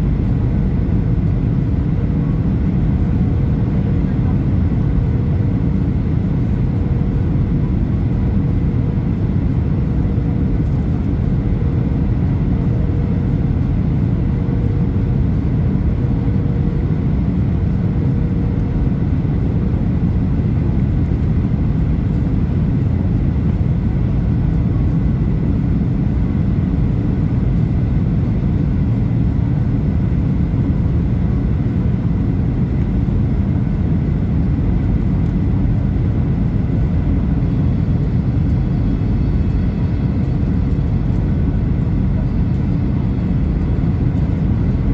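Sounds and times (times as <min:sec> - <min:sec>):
jet engines in aircraft cabin: 0:00.0 - 0:44.9.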